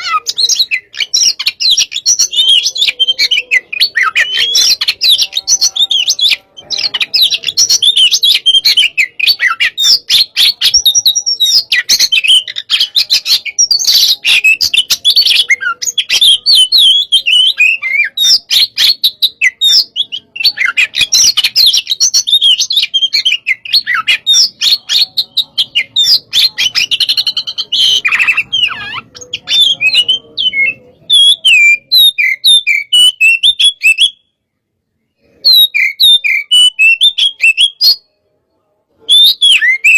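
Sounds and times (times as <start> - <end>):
bird singing: 0.0 - 34.4, 35.1 - 39.9.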